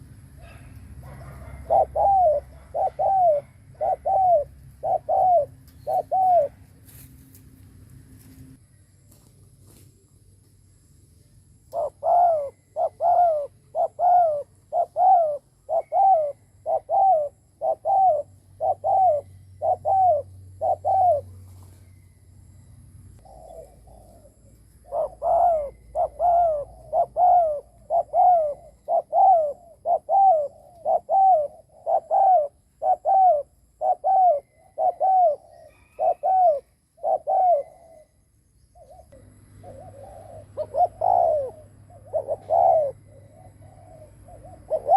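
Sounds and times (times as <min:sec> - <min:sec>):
dove cooing: 0:00.0 - 0:06.8, 0:11.7 - 0:21.8, 0:23.2 - 0:38.2, 0:38.8 - 0:44.9.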